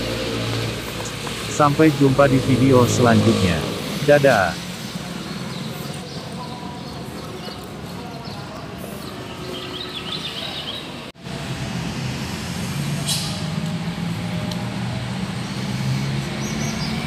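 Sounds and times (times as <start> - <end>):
vehicle engine humming: 0.0 - 9.5, 10.9 - 17.0.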